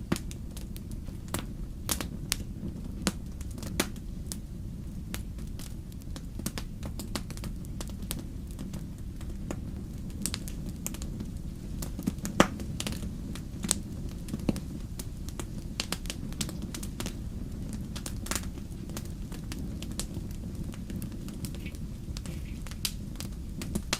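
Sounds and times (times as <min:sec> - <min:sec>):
low rumble of fire: 0:00.0 - 0:23.9
wood fire crackling and popping: 0:00.0 - 0:23.9.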